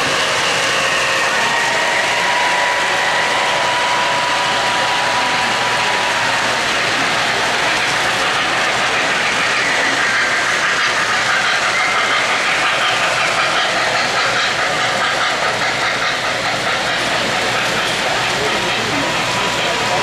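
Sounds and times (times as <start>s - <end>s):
model train wheels clattering on rails: 0.0s - 20.0s.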